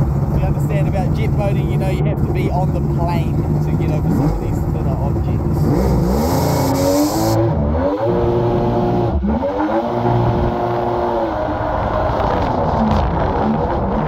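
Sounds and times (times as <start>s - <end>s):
boat engine revving: 0.0s - 14.0s.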